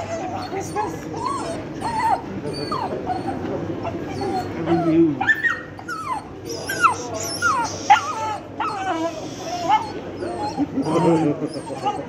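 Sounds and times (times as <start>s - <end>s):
dog whining: 0.0s - 12.0s.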